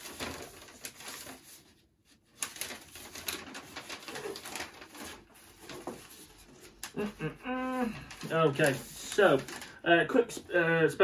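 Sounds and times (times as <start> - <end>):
paper rustling and crinkling: 0.0 - 9.8.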